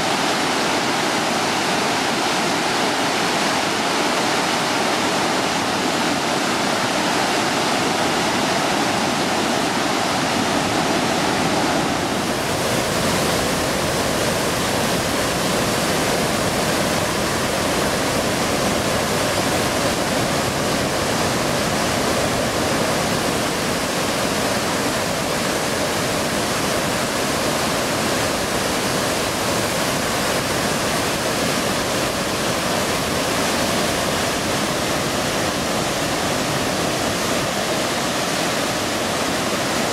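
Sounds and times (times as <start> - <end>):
river rushing through gorge: 0.0 - 39.9.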